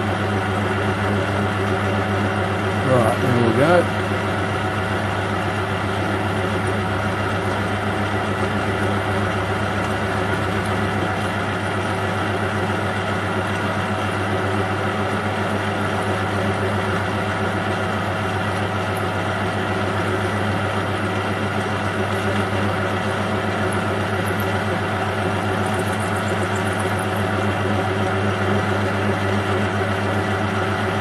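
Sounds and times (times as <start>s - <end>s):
metal lathe humming: 0.0s - 31.0s
drill bit cutting metal: 0.1s - 31.0s.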